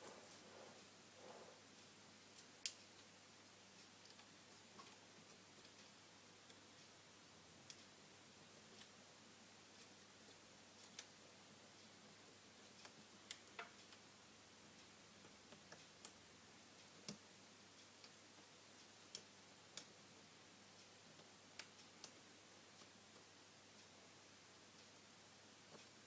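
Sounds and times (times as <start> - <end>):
small clicks and ticks: 1.7 - 26.0.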